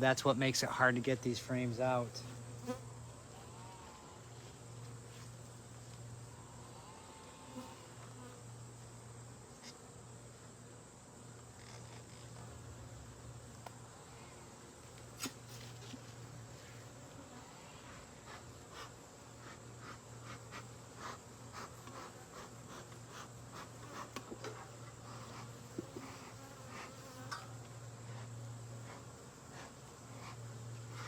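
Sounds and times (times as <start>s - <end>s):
honeybees buzzing: 0.0s - 11.6s, 12.2s - 31.0s.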